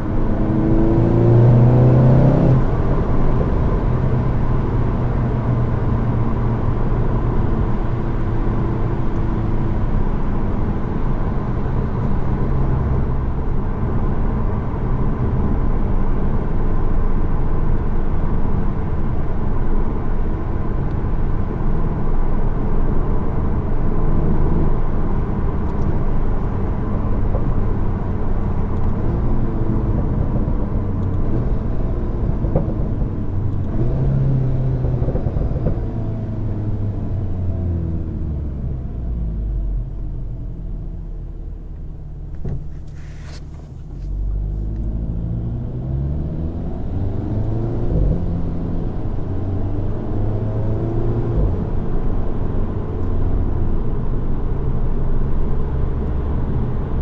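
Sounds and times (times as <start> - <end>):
car engine drone: 0.0 - 57.0
road noise: 0.0 - 57.0.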